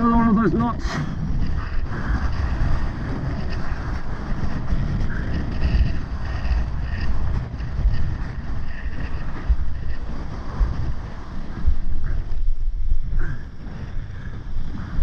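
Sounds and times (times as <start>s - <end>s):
strong gusty wind on microphone: 0.0s - 15.0s
surf washing and splashing: 0.0s - 15.0s.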